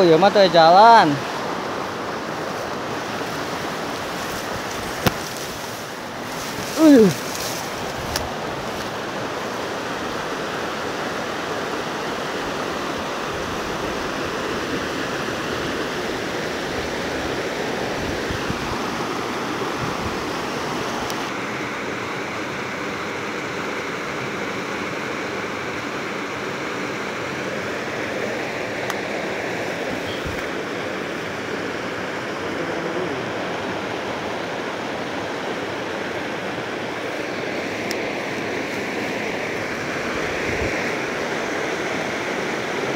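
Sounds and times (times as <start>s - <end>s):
river rushing over boulders: 0.0s - 42.9s.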